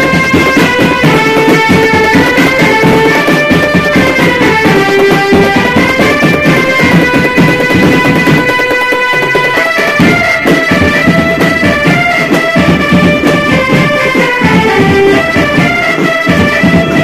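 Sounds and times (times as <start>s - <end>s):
dense drumming: 0.0s - 17.0s
marching band melody: 0.0s - 17.0s.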